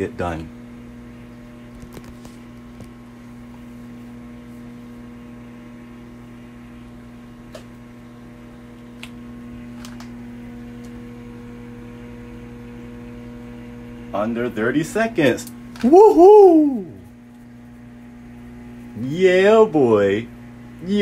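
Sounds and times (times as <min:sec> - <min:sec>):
microwave oven humming: 0:00.0 - 0:21.0.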